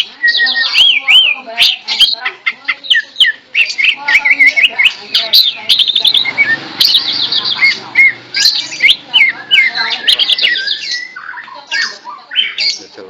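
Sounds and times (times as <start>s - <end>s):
bird singing whistled song: 0.0s - 2.2s, 2.8s - 12.9s.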